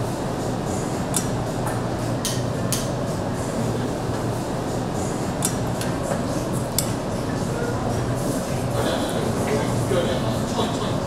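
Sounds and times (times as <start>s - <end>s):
restaurant room rumble: 0.0s - 11.0s.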